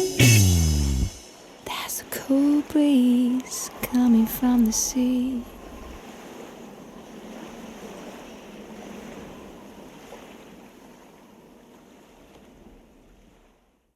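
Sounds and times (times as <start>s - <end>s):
ocean surf washing: 0.0s - 12.7s.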